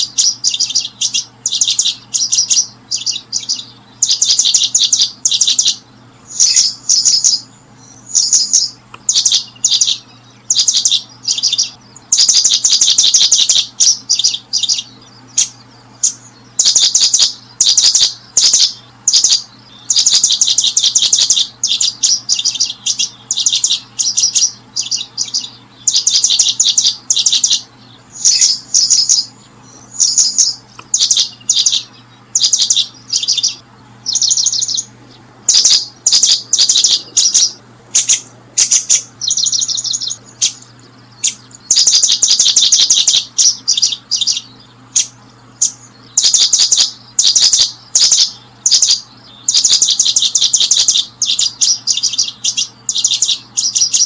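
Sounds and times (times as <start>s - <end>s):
small bird chirping trills: 0.0s - 54.0s
steady low hum: 0.0s - 54.0s.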